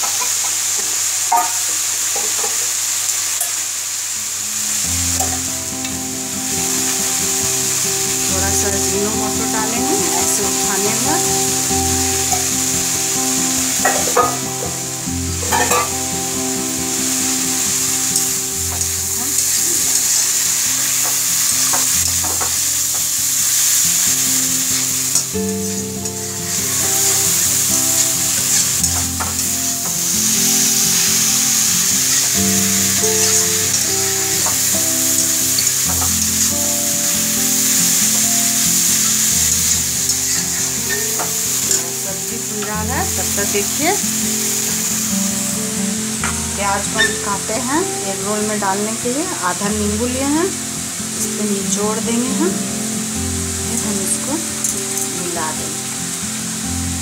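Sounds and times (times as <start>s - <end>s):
vegetables sizzling in a pan: 0.0s - 57.0s.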